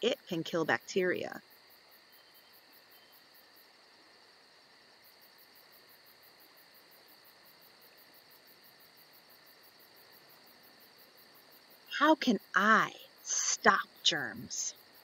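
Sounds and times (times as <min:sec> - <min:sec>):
faint background hiss: 0:00.0 - 0:15.0
thin steady high whine: 0:00.0 - 0:15.0.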